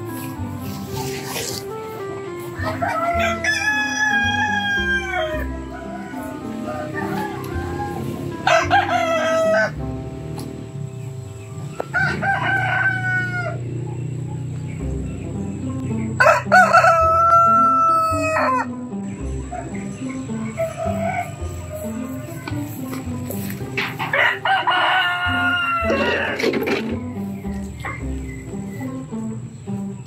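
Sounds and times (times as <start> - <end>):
roosters crowing: 0.0 - 30.0.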